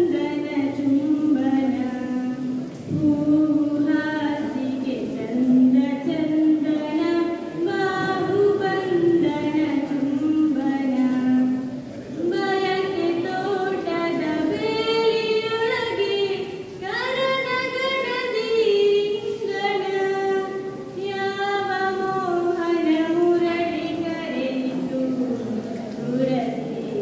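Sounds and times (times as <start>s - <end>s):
girl singing into a microphone: 0.0s - 27.0s.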